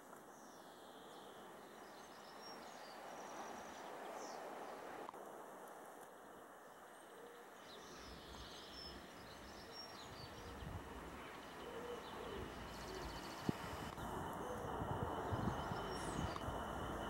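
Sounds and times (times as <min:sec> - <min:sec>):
birds chirping: 0:00.3 - 0:05.1, 0:06.2 - 0:17.0.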